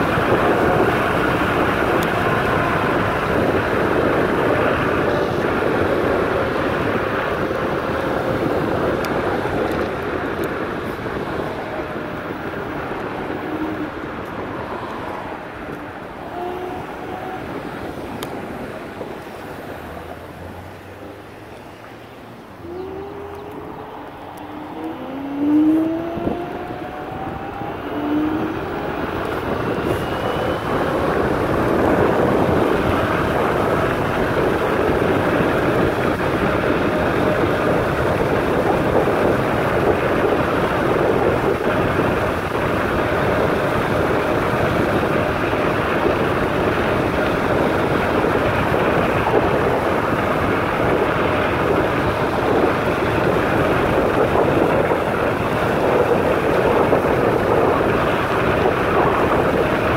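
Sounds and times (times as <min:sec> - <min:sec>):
vehicle rushing noise: 0:00.0 - 0:59.9
wind on microphone: 0:00.0 - 0:59.9.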